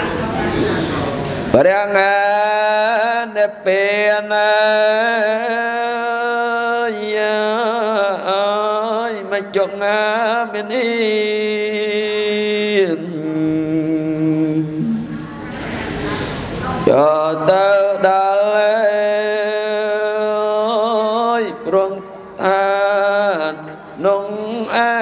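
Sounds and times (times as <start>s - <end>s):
man chanting through microphone: 1.5s - 15.2s, 16.8s - 25.0s.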